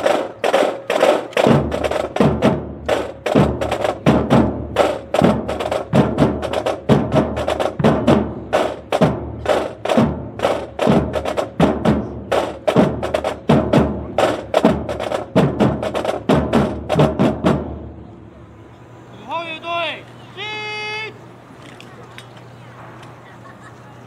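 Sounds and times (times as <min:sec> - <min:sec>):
drum corps playing cadence: 0:00.0 - 0:21.4.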